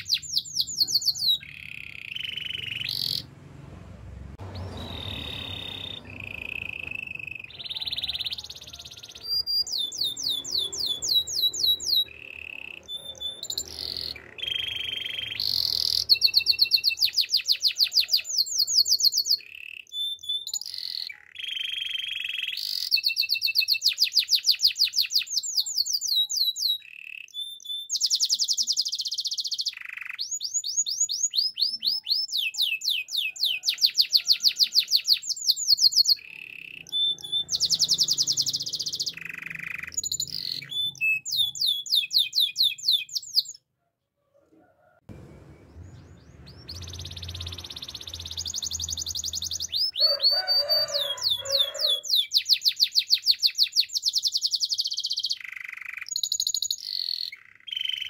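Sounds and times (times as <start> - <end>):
canary singing fast trills: 0.0 - 3.4, 4.4 - 43.7, 45.8 - 58.0.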